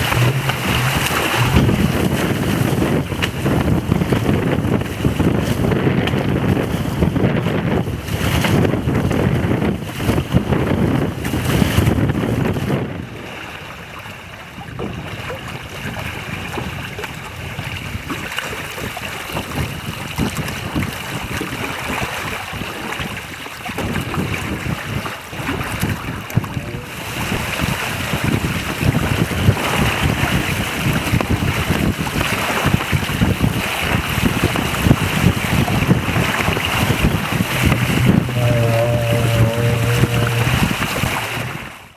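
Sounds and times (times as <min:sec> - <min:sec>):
wind buffeting microphone: 0:00.0 - 0:13.3, 0:14.6 - 0:41.8
water rushing along hull: 0:00.0 - 0:41.9.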